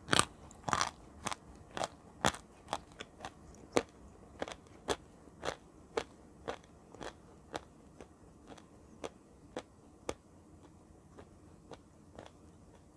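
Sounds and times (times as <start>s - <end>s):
crunchy chewing: 0.0s - 12.9s.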